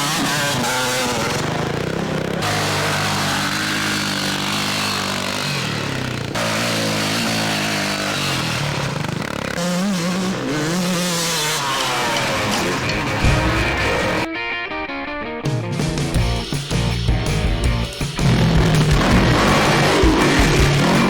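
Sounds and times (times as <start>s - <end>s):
dirt bike engines revving: 0.0s - 14.3s, 18.0s - 21.0s.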